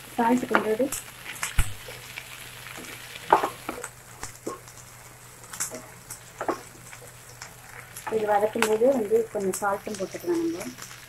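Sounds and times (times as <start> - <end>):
vegetables sizzling in pan: 0.0 - 11.0.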